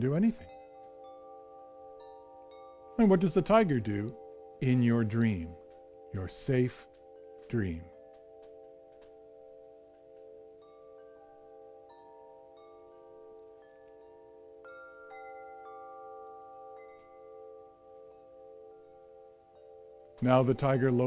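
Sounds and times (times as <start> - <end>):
ringing chime notes: 0.0 - 21.0.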